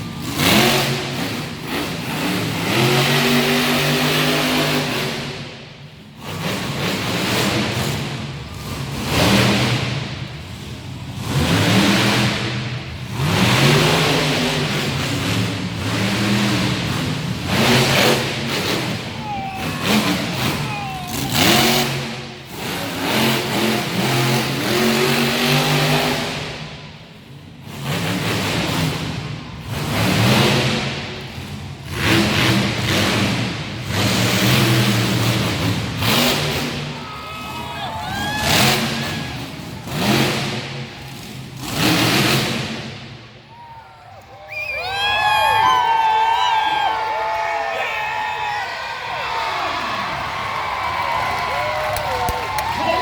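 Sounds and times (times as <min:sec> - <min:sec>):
truck engine revving: 0:00.0 - 0:43.4.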